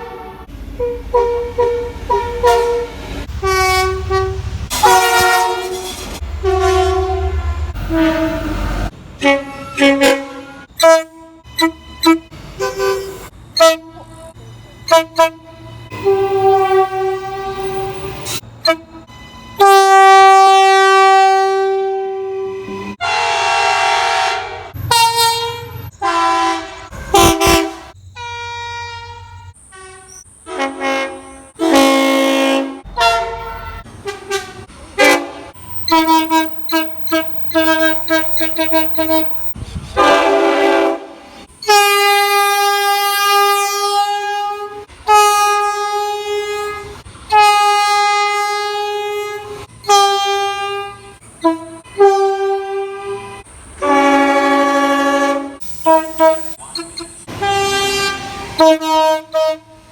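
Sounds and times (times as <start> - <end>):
train horn blasts: 0.0 - 59.9.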